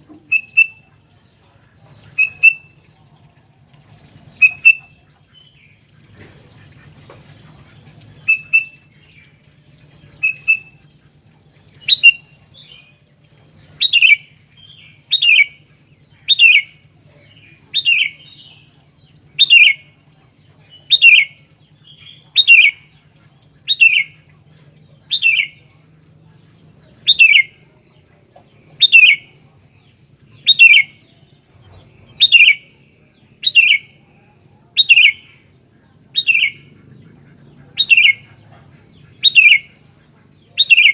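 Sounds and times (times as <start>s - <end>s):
bulbul calling: 0.0s - 1.0s, 1.7s - 3.0s, 4.0s - 25.8s, 26.6s - 40.9s.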